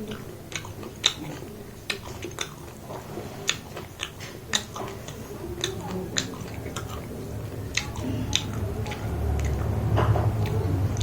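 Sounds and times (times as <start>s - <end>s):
chewing food: 0.0s - 11.0s
wet mouth smacks and clicks: 0.0s - 11.0s.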